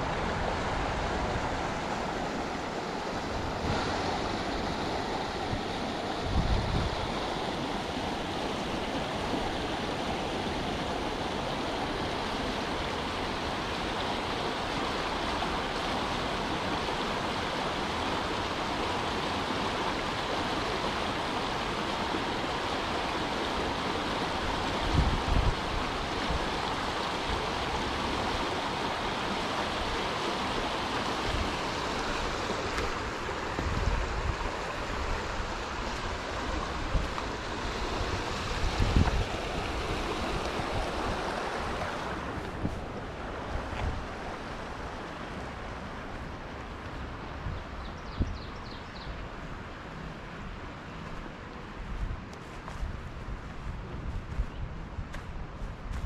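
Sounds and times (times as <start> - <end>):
wind gusts buffeting microphone: 0.0 - 13.7, 24.4 - 56.0
wind rushing through trees: 0.0 - 56.0.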